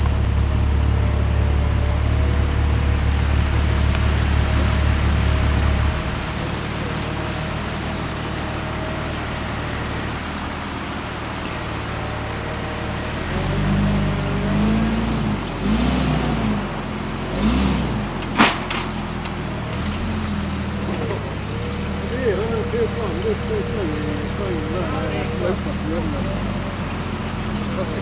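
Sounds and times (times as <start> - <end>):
sharp crack: 0.0 - 24.7
vehicle engine revving: 0.0 - 28.0.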